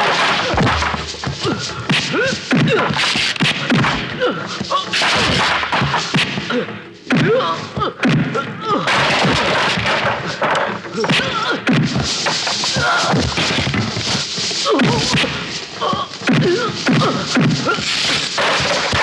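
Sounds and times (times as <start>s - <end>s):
punches landing: 0.0s - 19.0s
pained cries and grunts: 0.2s - 14.0s, 14.6s - 19.0s.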